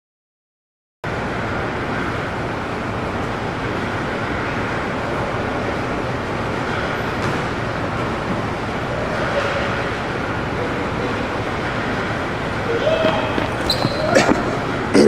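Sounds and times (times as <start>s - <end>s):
steady rushing noise: 1.1s - 15.0s.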